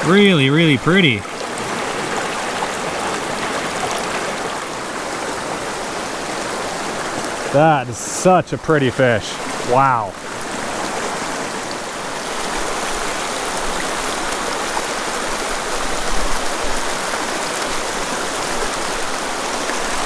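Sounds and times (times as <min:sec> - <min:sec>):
creek rushing over stones: 0:00.0 - 0:20.0.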